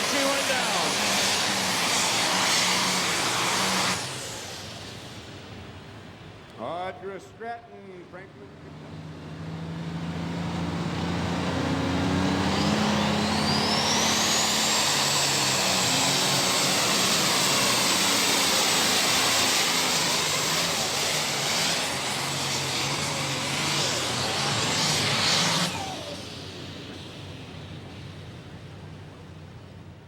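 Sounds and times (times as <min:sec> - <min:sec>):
diesel tractor engine at full throttle: 0:00.0 - 0:30.0.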